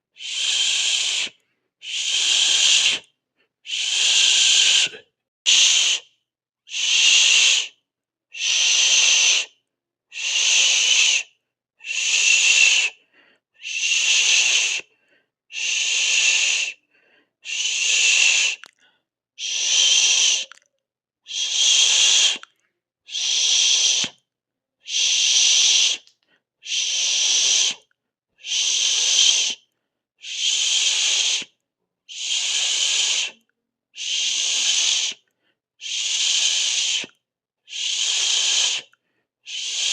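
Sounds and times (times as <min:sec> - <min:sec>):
person hissing through teeth: 0:00.2 - 0:06.1, 0:06.7 - 0:09.5, 0:10.1 - 0:13.0, 0:13.6 - 0:14.9, 0:15.5 - 0:16.8, 0:17.4 - 0:18.8, 0:19.4 - 0:20.6, 0:21.3 - 0:22.5, 0:23.1 - 0:24.2, 0:24.8 - 0:35.2, 0:35.8 - 0:39.9.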